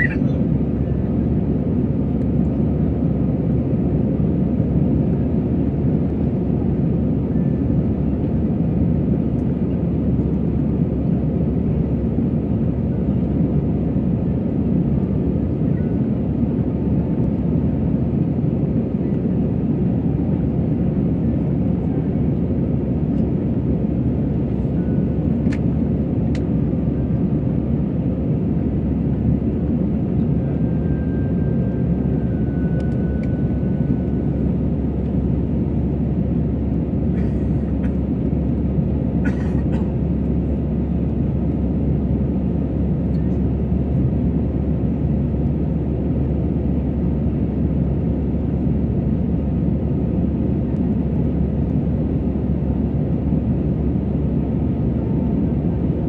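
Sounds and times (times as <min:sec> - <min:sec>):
airplane engine noise: 0:00.0 - 0:56.0.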